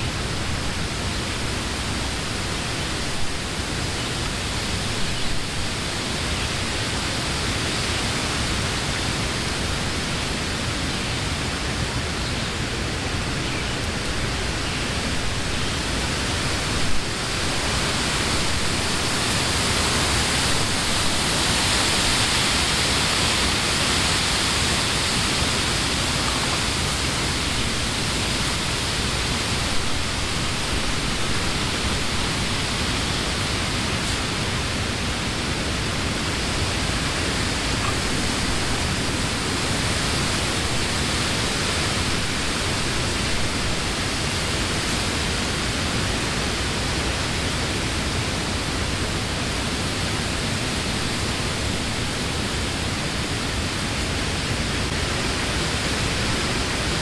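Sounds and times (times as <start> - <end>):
wind through leafy trees: 0.0 - 57.0.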